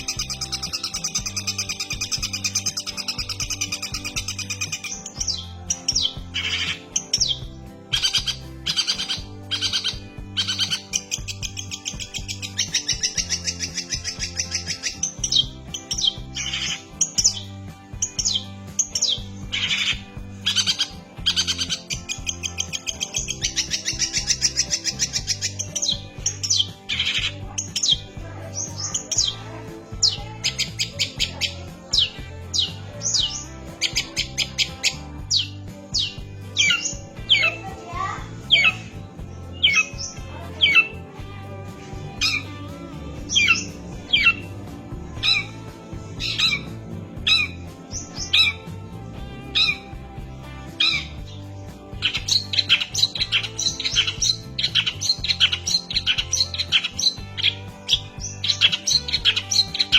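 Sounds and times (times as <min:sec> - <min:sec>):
background music with bass line: 0:00.0 - 0:59.9
shrike singing chattering song: 0:00.0 - 0:59.9.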